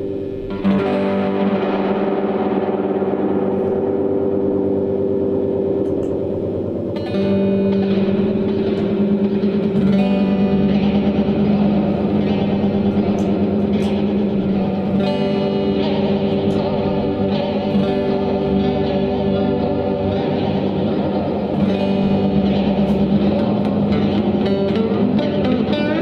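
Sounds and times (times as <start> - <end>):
electric guitar with delay echoes: 0.0 - 26.0.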